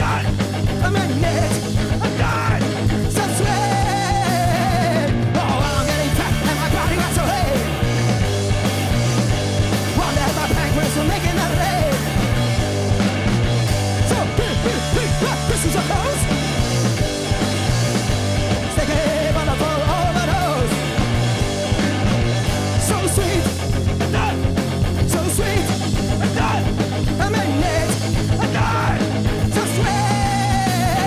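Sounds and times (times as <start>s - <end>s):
heavy bass: 0.0s - 31.0s
live rock band playing: 0.0s - 31.0s.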